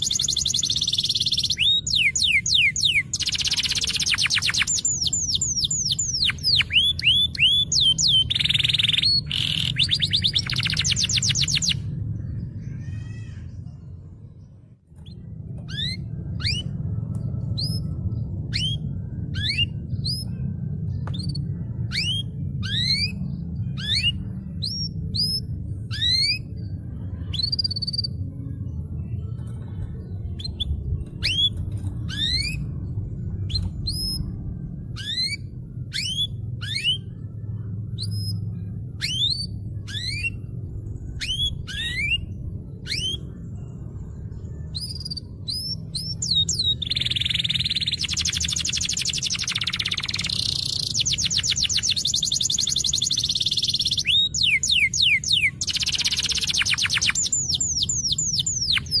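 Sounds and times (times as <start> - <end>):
canary singing: 0.0 - 59.0
steady low hum: 0.0 - 59.0.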